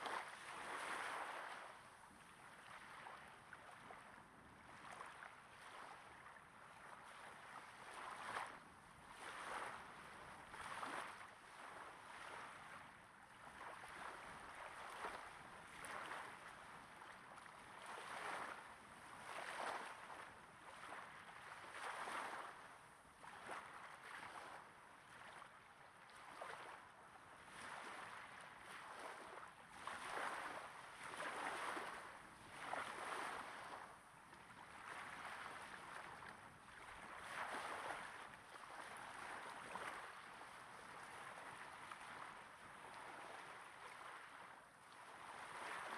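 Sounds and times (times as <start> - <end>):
small waves washing onto sand: 0.0 - 45.9.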